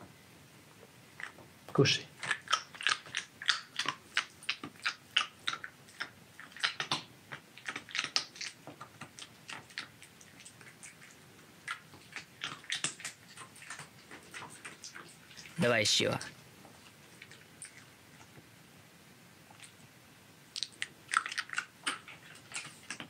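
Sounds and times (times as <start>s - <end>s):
fox crunching pear pieces: 1.1s - 18.5s, 20.5s - 23.0s.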